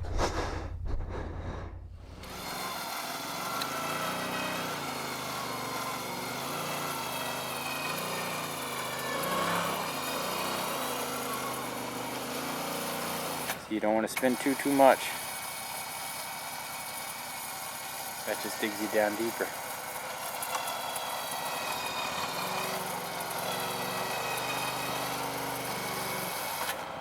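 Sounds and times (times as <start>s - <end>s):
wheels spinning in soft ground: 2.0s - 27.0s
off-road vehicle engine revving: 2.1s - 27.0s.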